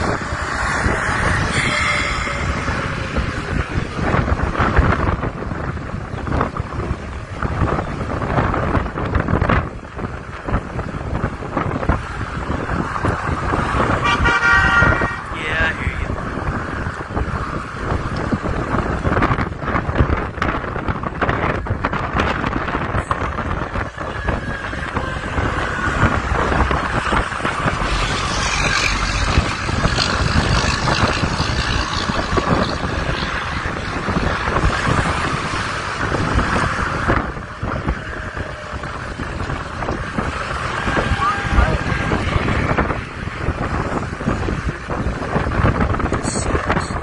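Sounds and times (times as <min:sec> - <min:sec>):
gusty wind buffeting microphone: 0:00.0 - 0:47.0
road traffic: 0:00.0 - 0:47.0.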